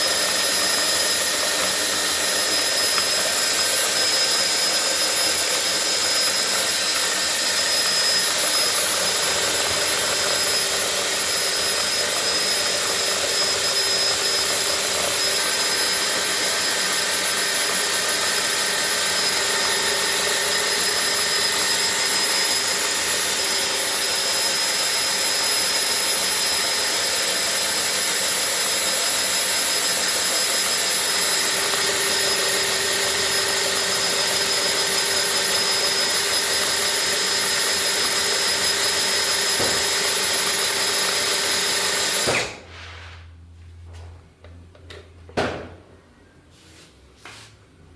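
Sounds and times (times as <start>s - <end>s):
electric drill whining: 0.0s - 42.7s.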